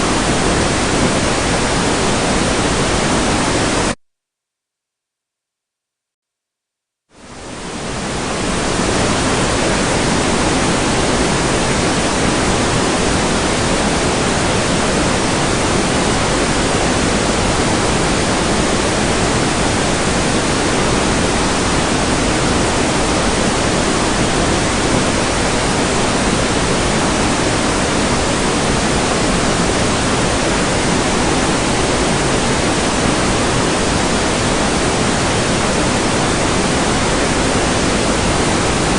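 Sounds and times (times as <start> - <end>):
heavy rain hissing: 0.0 - 3.9, 7.3 - 38.9.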